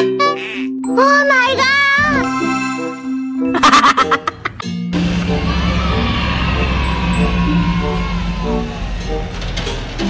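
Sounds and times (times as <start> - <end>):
children's background music: 0.0 - 10.0.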